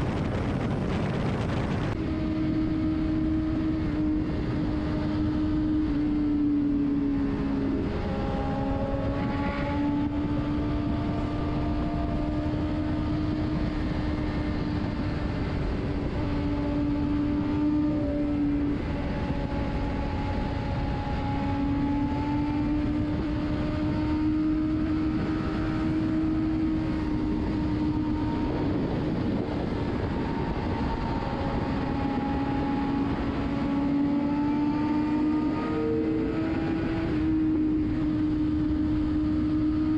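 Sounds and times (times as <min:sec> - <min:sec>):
heavy wind rush: 0:00.0 - 0:39.9
motorcycle engine cruising: 0:00.0 - 0:39.9.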